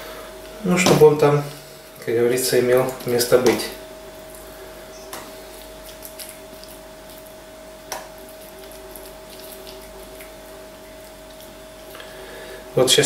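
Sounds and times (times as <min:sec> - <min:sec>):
faint hum: 0:00.0 - 0:13.0
meat squishing by hand: 0:00.4 - 0:12.8.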